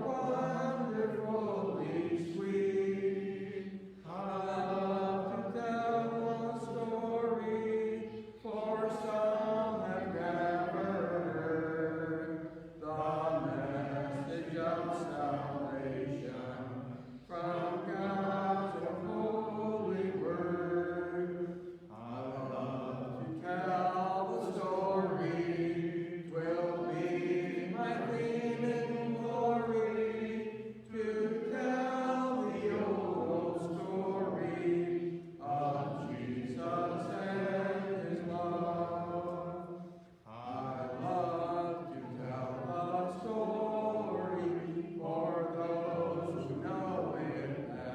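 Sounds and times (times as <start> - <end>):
congregation singing a hymn: 0.0 - 47.9.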